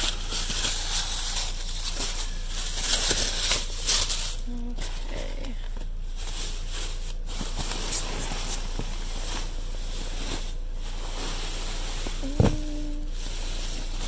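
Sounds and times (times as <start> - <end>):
rustling handling noise: 0.0 - 14.0.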